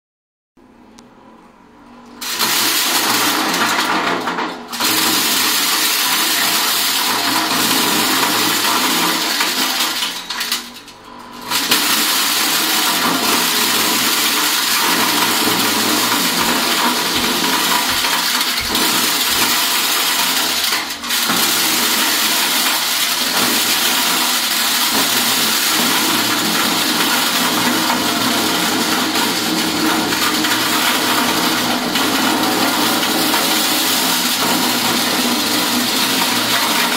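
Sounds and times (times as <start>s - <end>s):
corn-shelling machine running: 1.2s - 36.9s.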